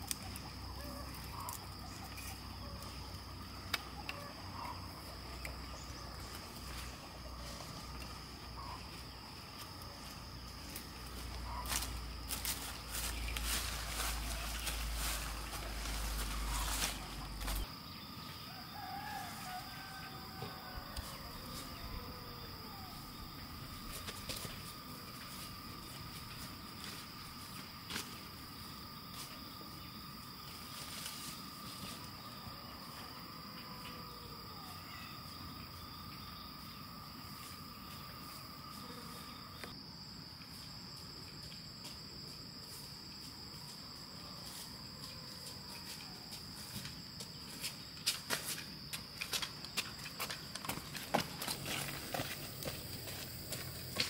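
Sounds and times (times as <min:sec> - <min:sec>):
lower insect tone: 0:00.0 - 0:54.0.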